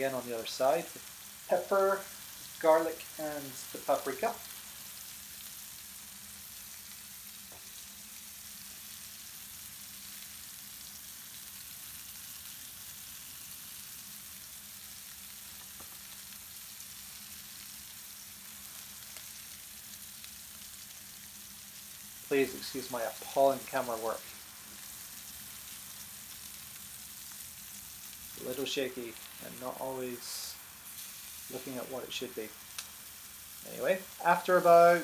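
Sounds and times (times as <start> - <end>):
chicken sizzling in hot oil: 0.0 - 35.0.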